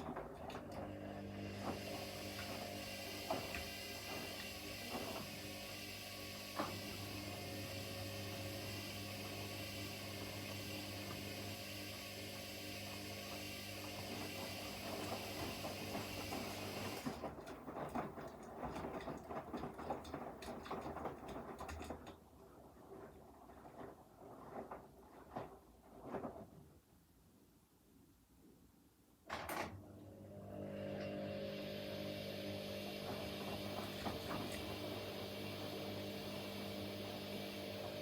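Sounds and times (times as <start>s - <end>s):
washing machine motor hum: 0.0s - 24.6s, 29.7s - 38.0s.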